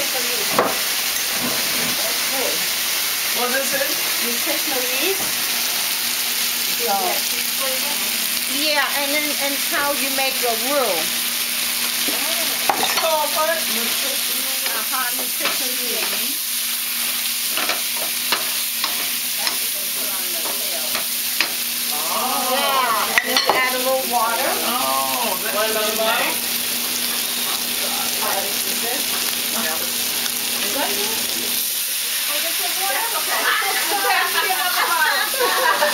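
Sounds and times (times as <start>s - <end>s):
vegetables sizzling in a pan: 0.0s - 35.9s.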